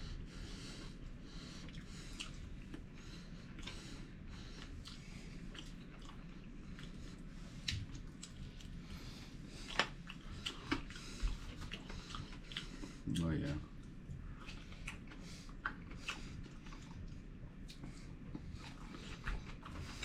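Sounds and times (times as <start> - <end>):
person chewing food: 0.2 - 20.0.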